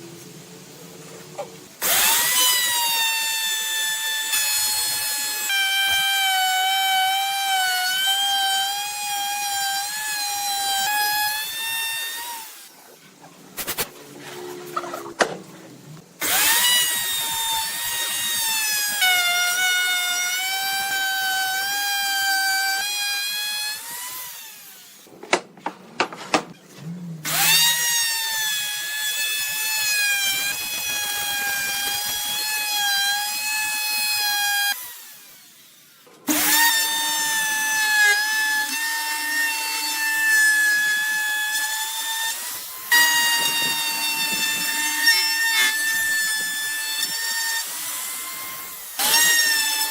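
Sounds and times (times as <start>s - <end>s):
power tool cutting wood: 1.8s - 12.8s, 16.2s - 25.1s, 27.2s - 49.9s.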